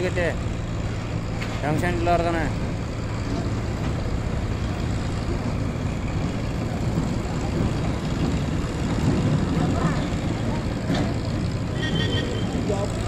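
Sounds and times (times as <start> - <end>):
tractor diesel engine drone: 0.0 - 13.0.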